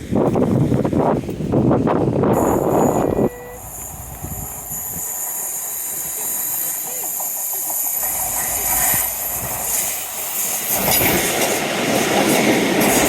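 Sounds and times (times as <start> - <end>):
passenger train running: 0.0 - 13.0.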